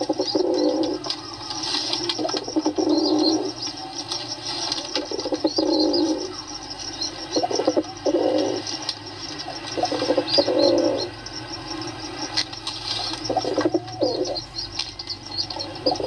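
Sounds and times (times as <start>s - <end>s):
pigeons cooing: 0.0s - 16.0s
small birds chirping: 0.0s - 16.0s.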